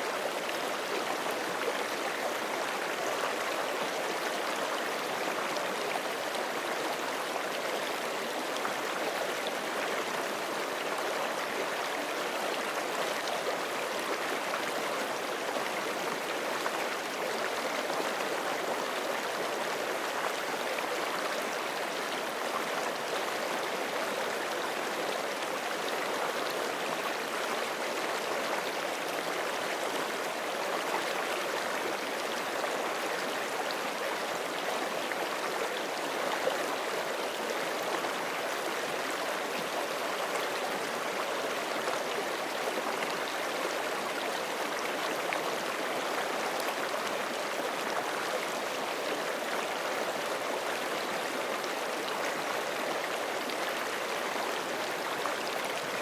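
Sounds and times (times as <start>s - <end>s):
creek flowing over rocks: 0.0s - 56.0s.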